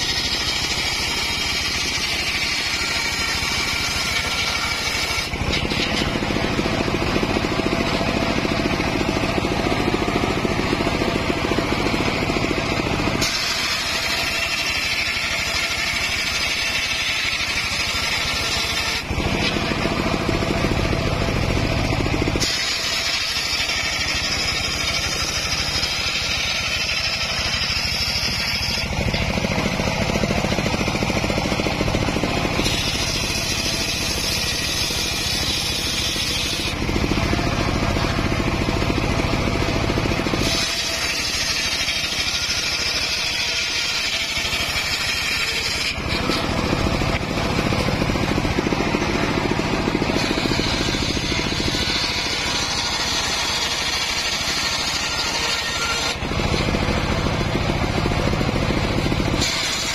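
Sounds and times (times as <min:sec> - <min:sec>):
circular saw cutting wood: 0:00.0 - 0:59.9
engine droning: 0:00.0 - 0:59.9.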